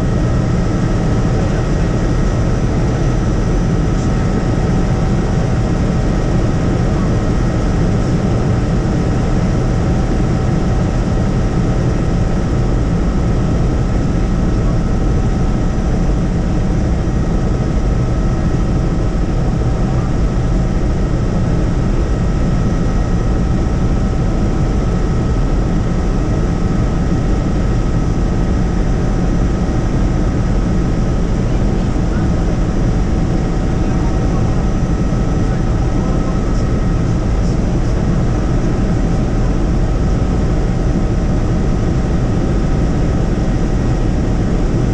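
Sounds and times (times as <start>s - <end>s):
helicopter engine and rotor: 0.0s - 44.9s.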